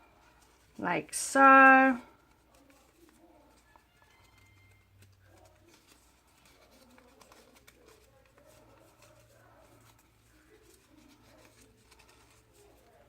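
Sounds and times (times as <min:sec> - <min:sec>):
card stock rustling and tapping: 0:02.1 - 0:13.0.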